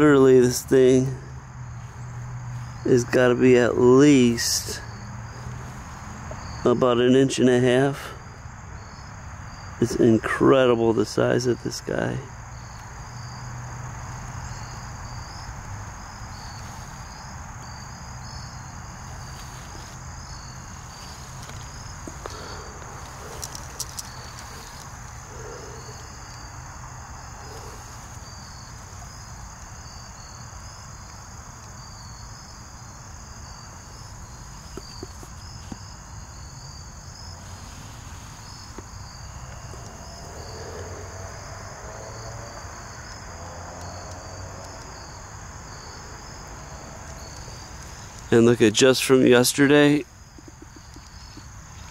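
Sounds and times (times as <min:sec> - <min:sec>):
crickets trilling: 0:00.0 - 0:51.9
pulsing cricket chirp: 0:00.0 - 0:51.9.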